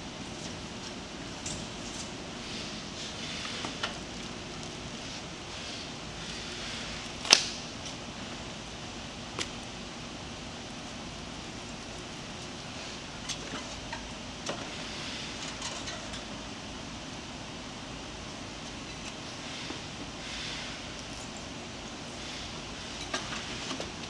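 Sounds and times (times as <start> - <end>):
steady low background noise: 0.0 - 24.0.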